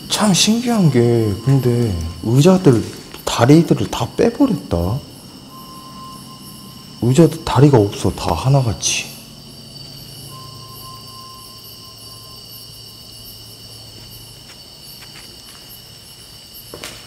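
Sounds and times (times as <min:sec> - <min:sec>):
crickets chirring: 0:00.0 - 0:17.0
faint low hum: 0:00.0 - 0:17.0.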